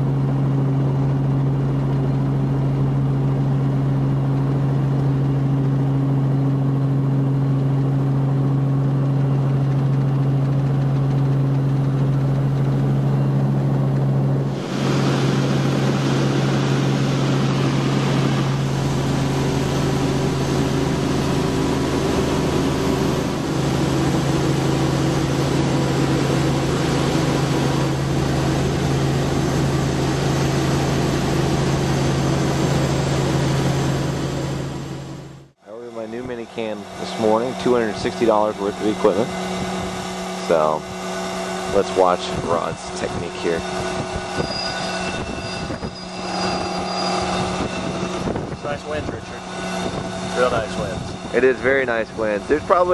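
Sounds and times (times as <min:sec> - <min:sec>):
helicopter drone: 0:00.0 - 0:52.9.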